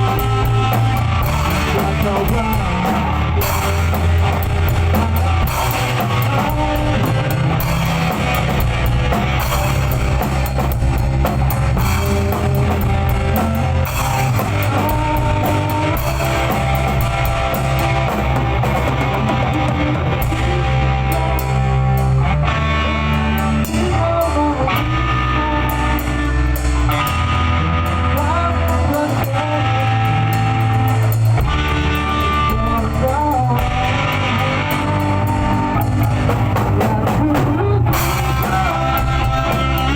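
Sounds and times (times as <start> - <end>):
rock music with guitar and drums: 0.0 - 39.9.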